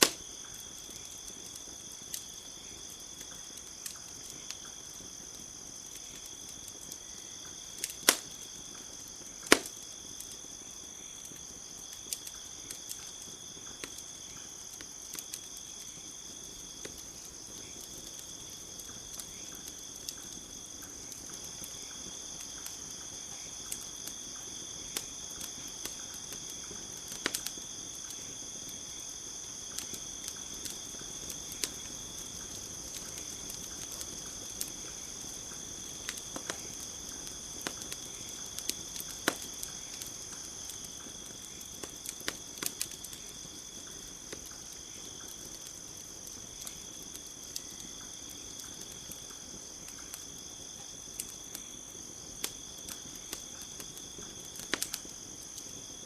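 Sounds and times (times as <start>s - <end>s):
campfire crackling and popping: 0.0s - 56.0s
crickets chirring: 0.0s - 56.0s.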